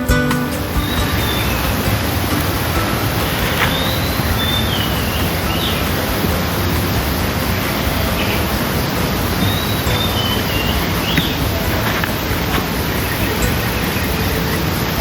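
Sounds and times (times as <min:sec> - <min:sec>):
loud rushing noise: 0:00.0 - 0:15.0.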